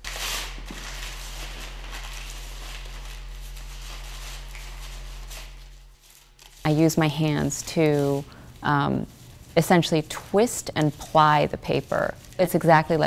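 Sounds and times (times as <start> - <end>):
paper rustling and rubbing: 0.0 - 13.0
steady low hum: 0.0 - 13.0.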